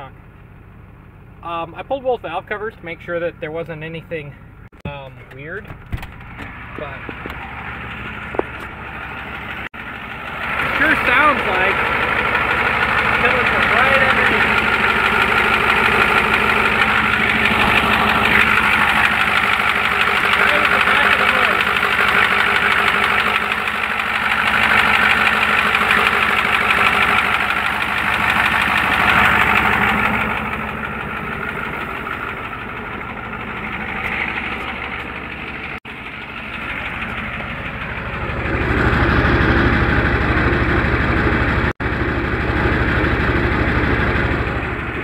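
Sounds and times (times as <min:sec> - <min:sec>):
diesel engine idling with tick-knock: 0:00.0 - 0:45.0.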